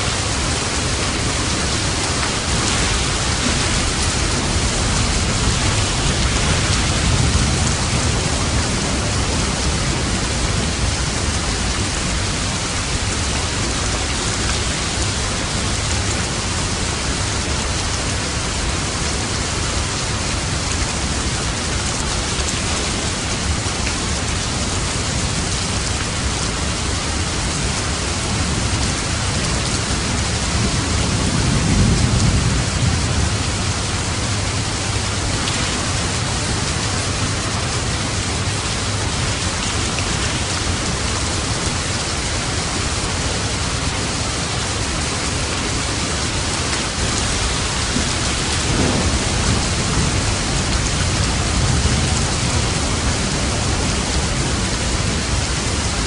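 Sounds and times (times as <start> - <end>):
thunder rumbling: 0.0 - 19.3, 27.6 - 56.0
heavy rain falling: 0.0 - 56.0.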